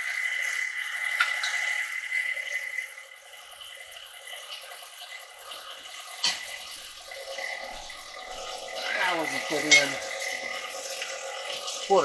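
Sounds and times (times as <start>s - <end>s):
stand mixer whining: 0.0s - 4.2s, 5.0s - 12.0s.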